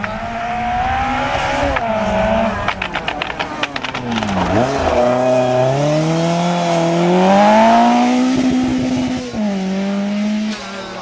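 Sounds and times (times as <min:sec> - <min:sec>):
rally car engine pulling hard: 0:00.0 - 0:11.0.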